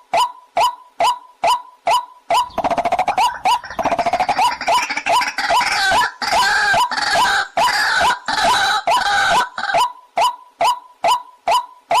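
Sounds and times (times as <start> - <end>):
bird calling upward-hooked notes: 0.0 - 12.0.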